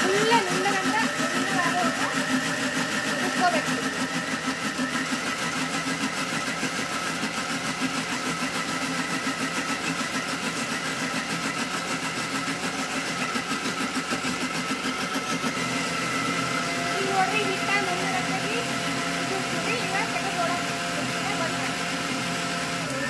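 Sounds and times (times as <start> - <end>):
mixer grinder motor running: 0.0 - 23.0.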